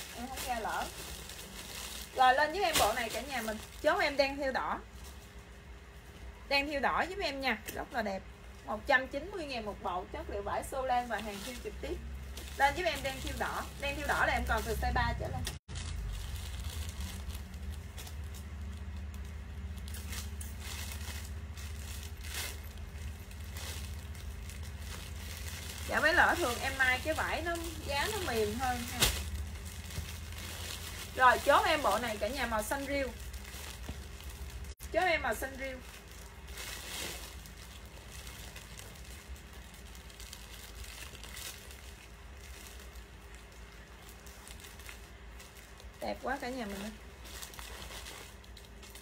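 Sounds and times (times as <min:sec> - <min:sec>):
clothing fabric rustling: 0:00.0 - 0:06.2, 0:10.5 - 0:49.0
low room hum: 0:00.0 - 0:49.0.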